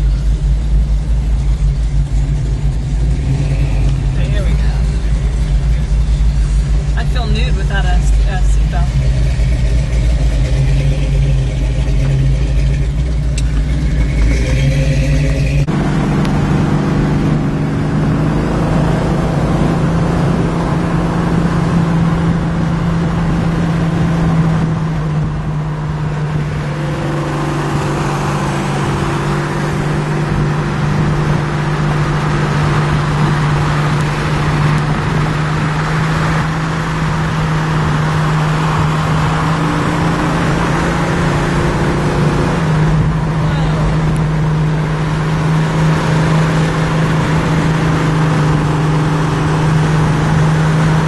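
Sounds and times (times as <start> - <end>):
car engine drone: 0.0 - 51.0.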